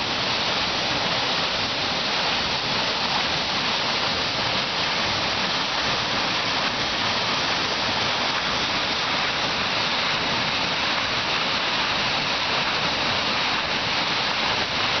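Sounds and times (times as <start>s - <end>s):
water rushing and splashing: 0.0s - 15.0s.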